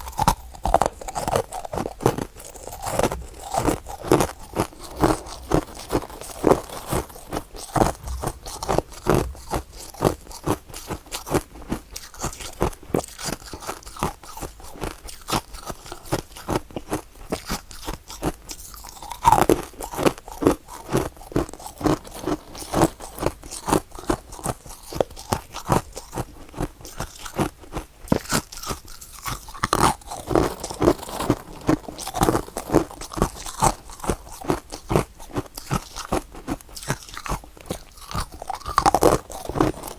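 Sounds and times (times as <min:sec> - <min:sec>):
chewing crunchy frost: 0:00.0 - 0:39.9.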